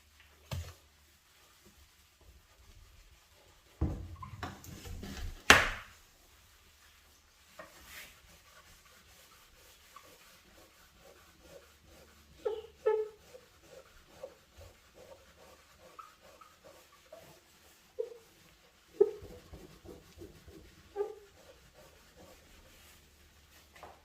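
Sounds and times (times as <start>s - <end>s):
scrubbing a dirty oven: 0.0s - 24.0s.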